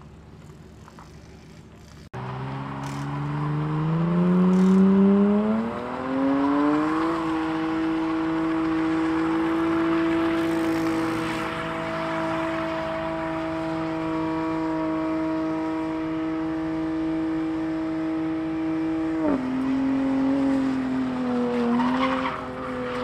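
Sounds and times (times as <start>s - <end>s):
tires spinning: 0.5s - 23.0s
car engine revving: 2.2s - 23.0s.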